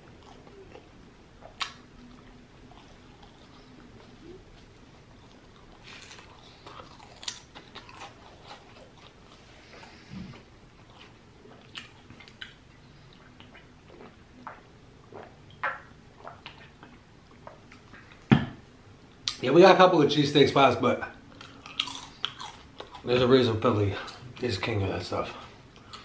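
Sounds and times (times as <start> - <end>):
person chewing: 0.0 - 18.3, 21.3 - 23.2, 25.3 - 26.0.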